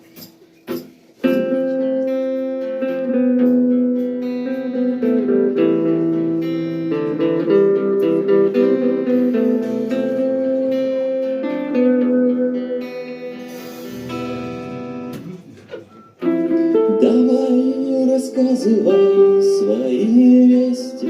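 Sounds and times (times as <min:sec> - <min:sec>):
guitar playing ringing chords: 0:00.1 - 0:21.0.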